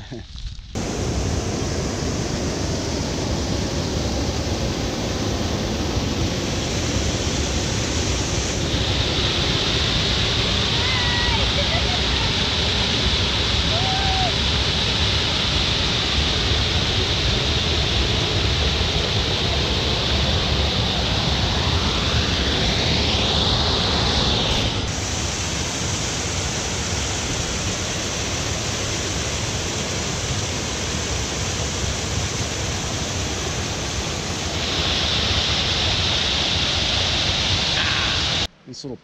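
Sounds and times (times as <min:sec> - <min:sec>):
waterfall rushing: 0:00.8 - 0:38.5.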